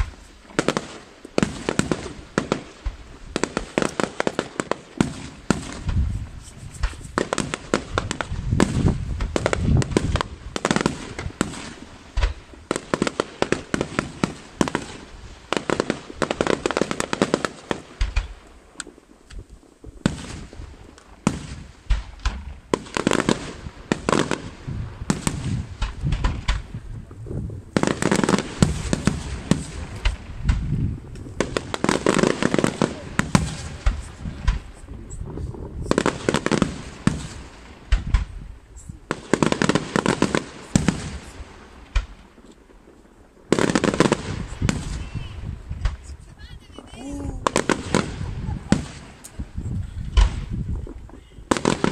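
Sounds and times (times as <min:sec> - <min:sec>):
firework shells bursting: 0:00.0 - 0:51.9.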